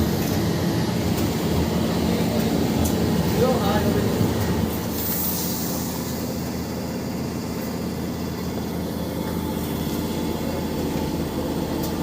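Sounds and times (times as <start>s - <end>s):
washing machine rumbling: 0.0s - 5.3s, 6.0s - 12.0s.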